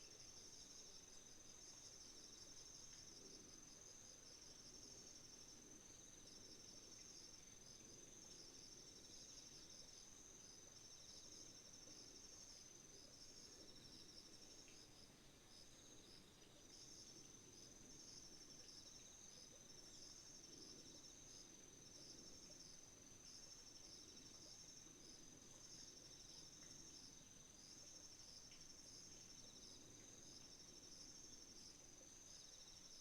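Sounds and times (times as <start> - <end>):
soft lower insect trill: 0.0 - 33.0.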